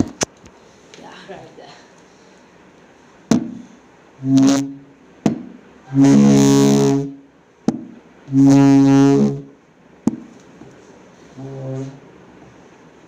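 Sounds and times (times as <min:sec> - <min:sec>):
low buzzing hums: 0:02.1 - 0:13.0.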